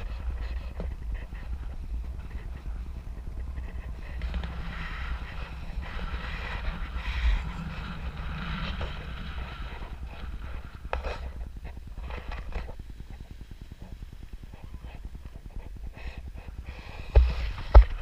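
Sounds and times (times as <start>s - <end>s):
tyre and road noise: 0.0s - 15.8s
wind rumble on microphone: 0.0s - 18.0s.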